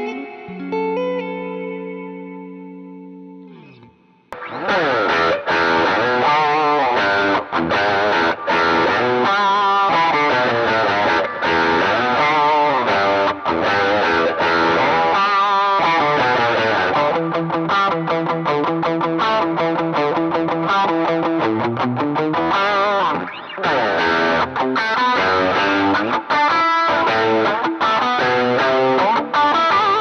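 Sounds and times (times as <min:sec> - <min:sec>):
electric guitar riff: 0:00.0 - 0:30.0.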